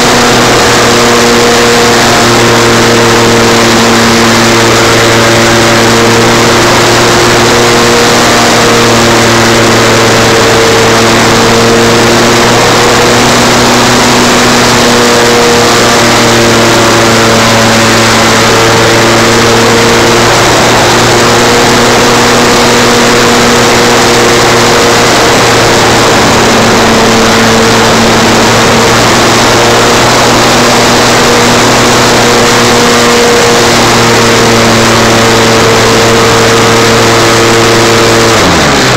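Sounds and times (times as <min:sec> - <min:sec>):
model plane motor droning: 0:00.0 - 0:38.9
rushing air noise: 0:00.0 - 0:38.9.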